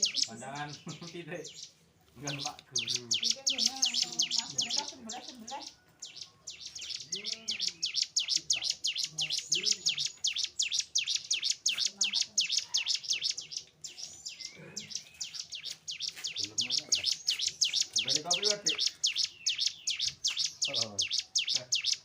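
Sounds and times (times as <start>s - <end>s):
bird chirping rapidly: 0.0s - 22.0s.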